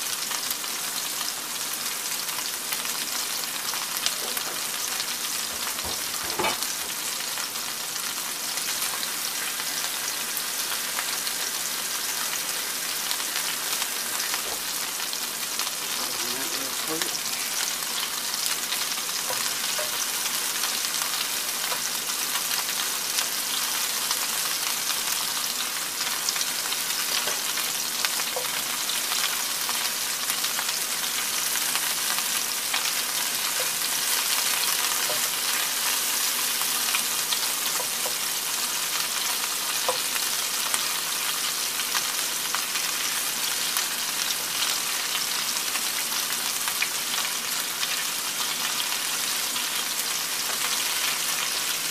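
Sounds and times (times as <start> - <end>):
meatballs sizzling in a skillet: 0.0 - 51.9.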